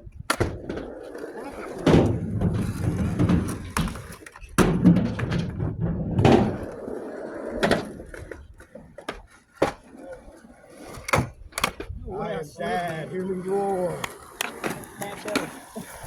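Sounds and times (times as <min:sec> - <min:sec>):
skateboard clacks: 0:00.0 - 0:12.0, 0:12.6 - 0:16.0
skateboard wheels rolling: 0:00.0 - 0:16.0.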